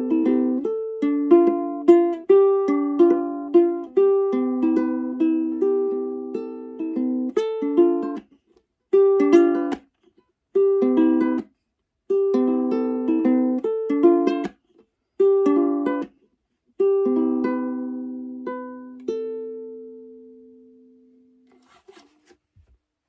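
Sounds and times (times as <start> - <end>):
plucked string instrument melody: 0.0 - 9.8, 10.5 - 11.5, 12.1 - 16.2, 16.8 - 22.3.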